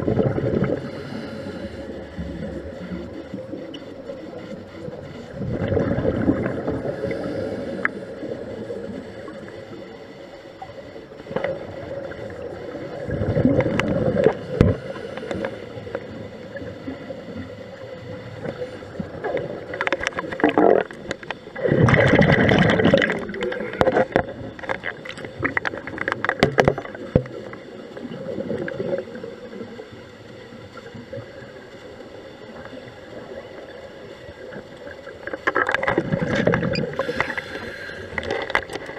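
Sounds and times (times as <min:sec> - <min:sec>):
steady hum: 0:00.0 - 0:38.9
underwater bubbles gurgling: 0:00.0 - 0:38.9.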